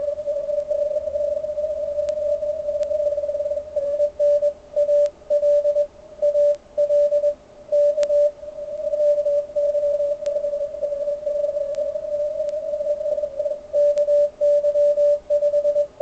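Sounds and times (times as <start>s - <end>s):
morse code tone: 0.0s - 16.0s.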